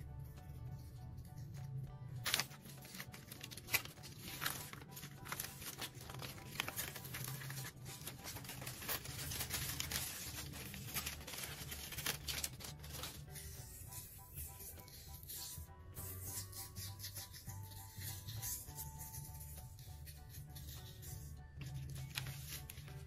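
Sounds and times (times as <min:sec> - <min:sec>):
soft background music: 0:00.0 - 0:23.0
paper sheet peeling and crinkling: 0:02.2 - 0:15.6, 0:17.6 - 0:23.0.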